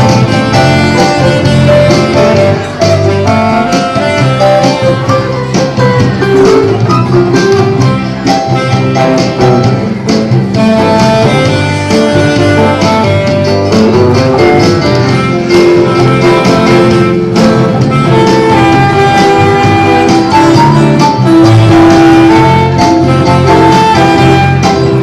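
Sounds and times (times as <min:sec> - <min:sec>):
live band instrumental: 0:00.0 - 0:25.0.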